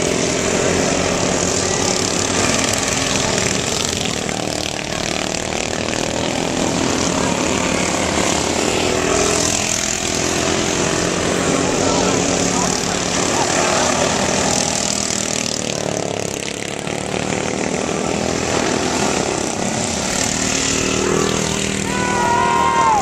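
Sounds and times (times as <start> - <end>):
lawn mower engines buzzing: 0.0 - 23.0.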